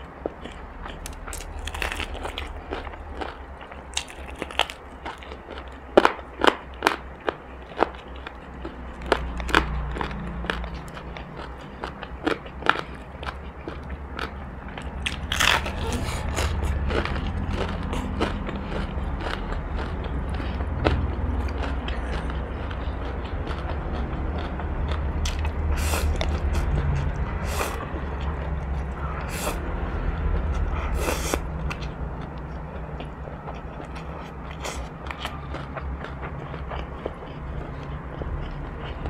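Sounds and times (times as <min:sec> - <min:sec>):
steady low rumble: 0:00.0 - 0:39.0
chewing noodles: 0:00.2 - 0:39.0.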